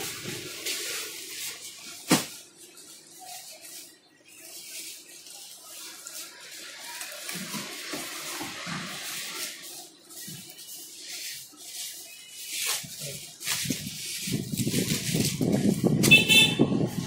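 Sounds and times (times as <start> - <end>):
plastic packets crinkling: 0.0 - 15.7.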